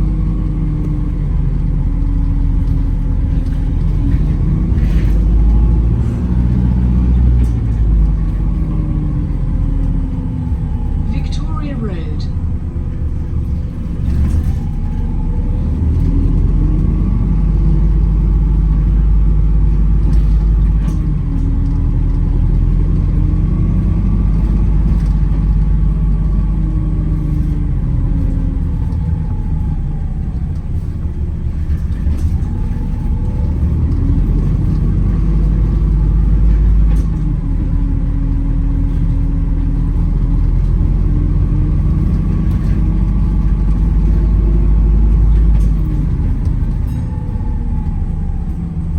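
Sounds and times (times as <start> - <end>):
bus rumble from inside: 0.0 - 48.9.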